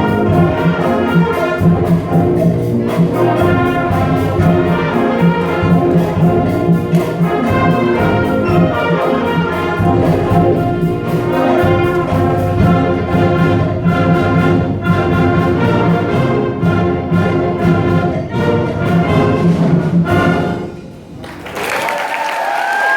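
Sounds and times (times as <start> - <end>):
steady percussion beat: 0.0 - 20.7
band playing brass: 0.0 - 21.2.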